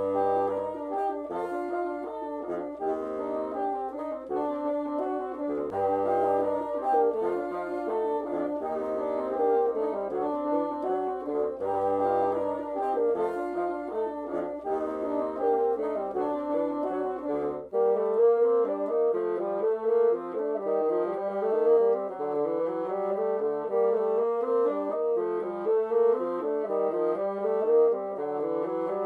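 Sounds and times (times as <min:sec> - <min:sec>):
bassoons playing in harmony: 0:00.0 - 0:29.0.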